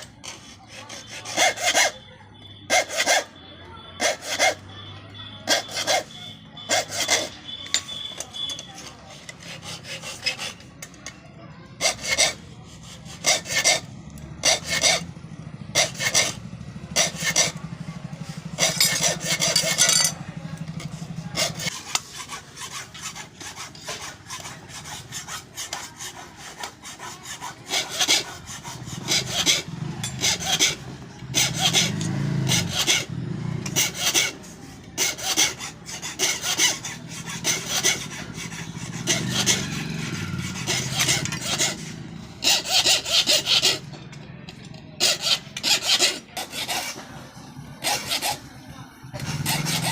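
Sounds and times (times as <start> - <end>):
metal filing rasping strokes: 0.0 - 49.9.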